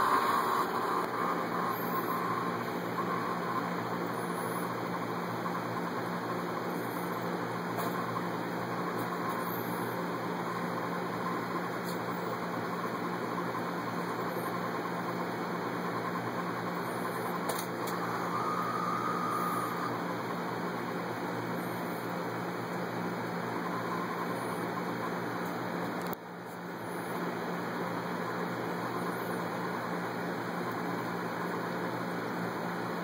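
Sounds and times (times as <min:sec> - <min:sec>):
machine hum with hiss: 0:00.0 - 0:33.0.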